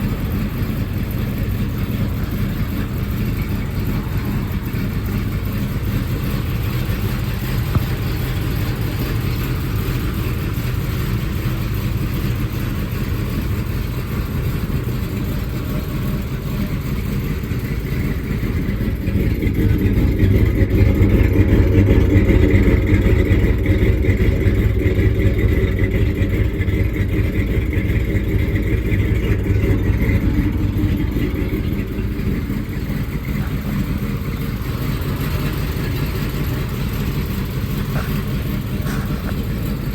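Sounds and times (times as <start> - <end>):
pickup truck engine running: 0.0 - 39.9.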